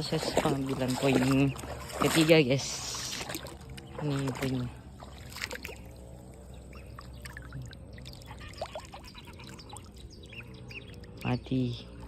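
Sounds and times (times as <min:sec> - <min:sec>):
water dripping and trickling: 0:00.0 - 0:12.0.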